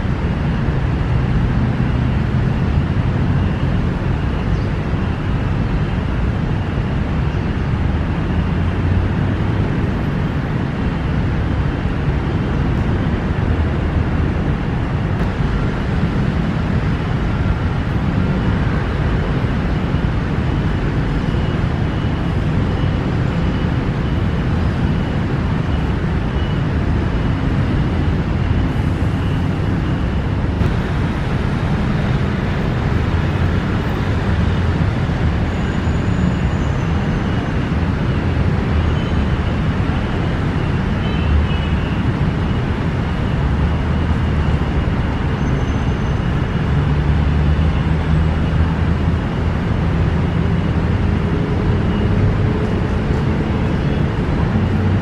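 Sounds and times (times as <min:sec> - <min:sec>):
city road traffic rumble: 0:00.0 - 0:55.0.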